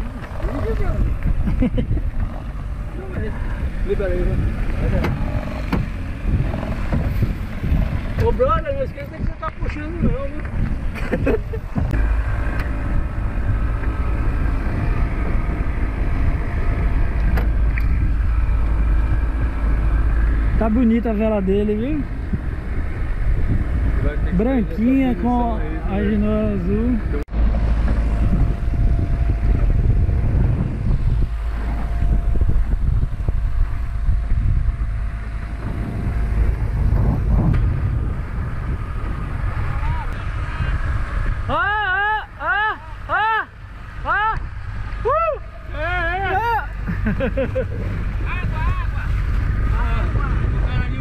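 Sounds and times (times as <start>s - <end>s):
water rushing along hull: 0.0s - 51.0s
wind buffeting microphone: 0.0s - 51.0s.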